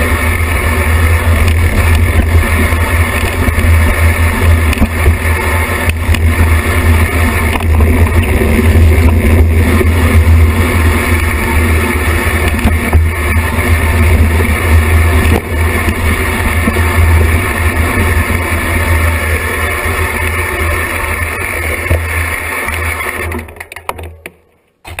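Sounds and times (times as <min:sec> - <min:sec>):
bike tyres rumbling on dirt: 0:00.0 - 0:23.9.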